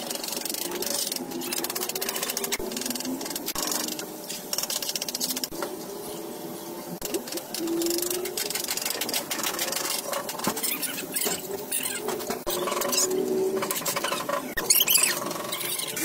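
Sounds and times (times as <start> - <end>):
small machine clattering: 0.0 - 5.6, 7.0 - 16.0.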